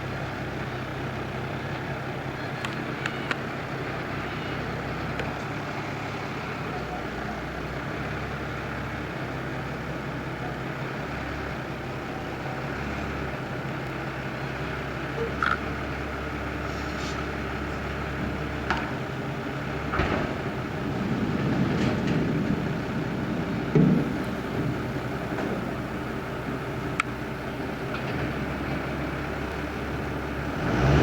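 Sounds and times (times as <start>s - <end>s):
harvester working: 0.0s - 31.0s
tractor engine running: 0.0s - 31.0s.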